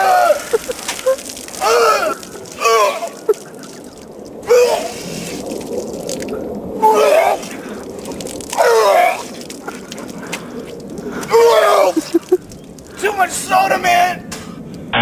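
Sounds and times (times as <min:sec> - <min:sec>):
liquid dripping and splashing: 0:00.0 - 0:14.8.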